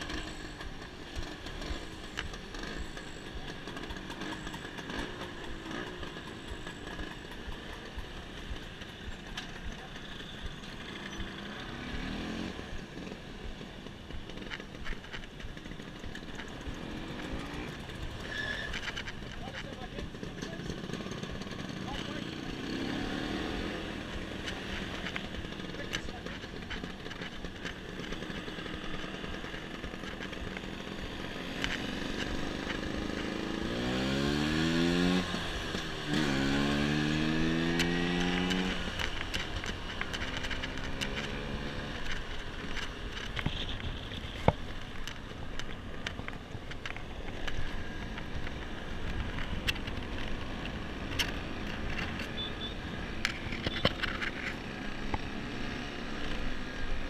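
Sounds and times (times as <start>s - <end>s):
scooter engines accelerating: 0.0s - 57.0s.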